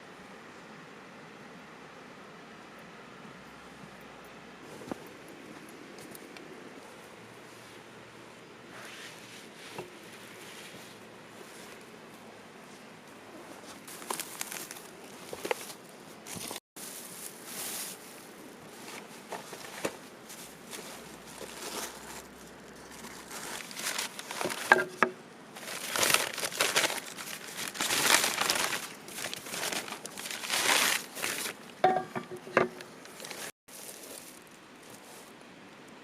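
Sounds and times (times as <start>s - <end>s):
rustling and crinkling: 4.6s - 35.5s.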